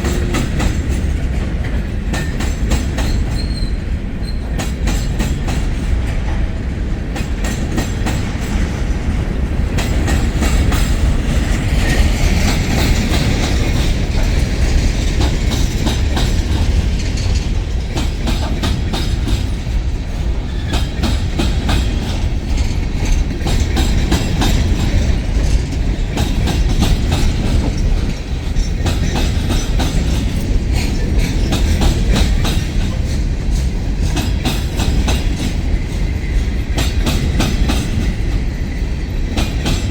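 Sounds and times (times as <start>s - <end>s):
wheels clacking over rail joints: 0.0s - 39.9s.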